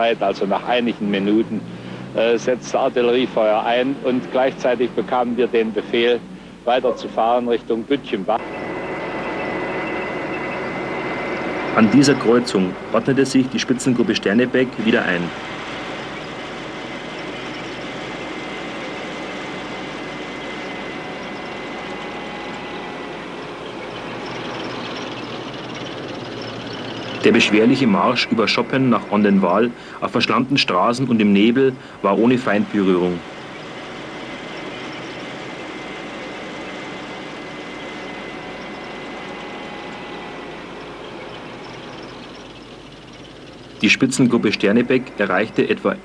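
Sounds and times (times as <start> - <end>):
faint thin whine: 0.0 - 46.0
road noise: 0.0 - 46.0
vehicle engine: 0.0 - 46.0.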